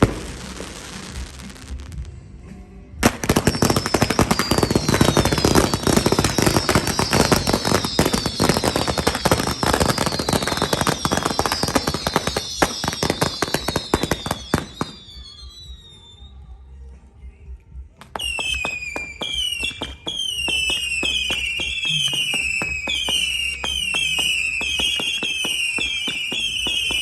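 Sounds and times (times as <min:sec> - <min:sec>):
fireworks crackling bangs: 0:00.0 - 0:02.2, 0:03.0 - 0:16.2, 0:18.0 - 0:27.0
fireworks whistles falling: 0:03.0 - 0:16.5, 0:18.0 - 0:27.0.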